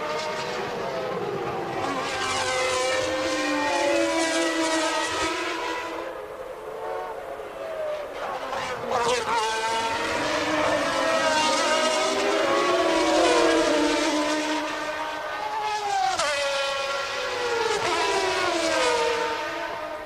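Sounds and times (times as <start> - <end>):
racing car engines high-revving: 0.0 - 20.0.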